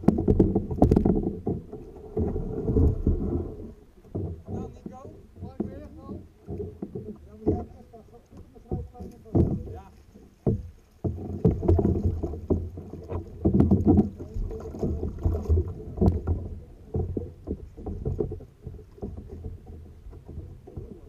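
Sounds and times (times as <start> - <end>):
paddle knocking on hull: 0.0 - 21.0
water splashing around kayak: 0.0 - 21.0.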